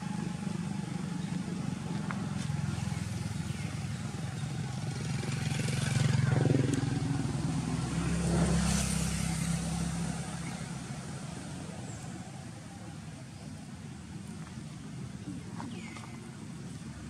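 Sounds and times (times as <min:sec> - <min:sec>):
passing vehicle engines: 0:00.0 - 0:17.0.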